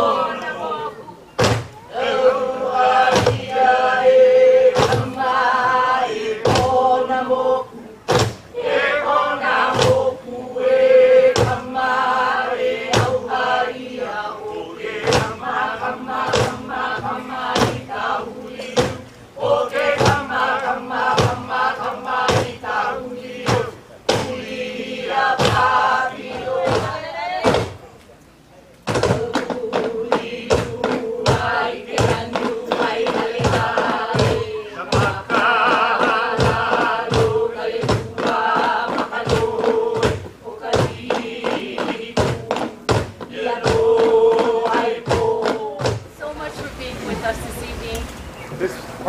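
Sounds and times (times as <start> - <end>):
drum strikes: 1.4 - 7.2, 8.1 - 13.7, 14.8 - 27.9, 28.9 - 46.7.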